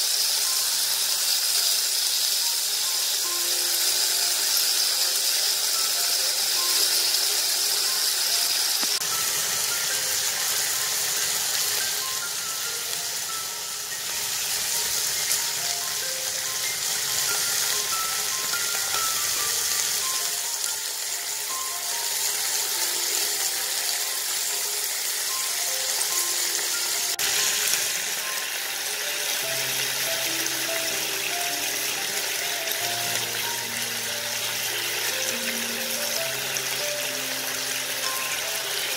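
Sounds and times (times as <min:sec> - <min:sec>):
skewers sizzling on a grill pan: 0:00.0 - 0:38.9
light melodic background music: 0:00.2 - 0:38.9.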